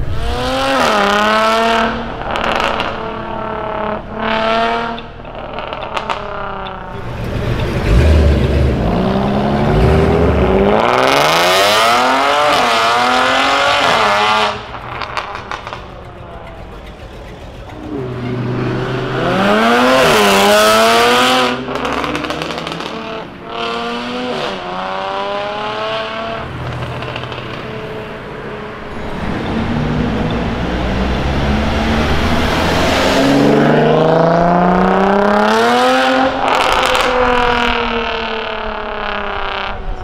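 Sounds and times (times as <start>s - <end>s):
loud car exhaust accelerating: 0.0s - 40.0s.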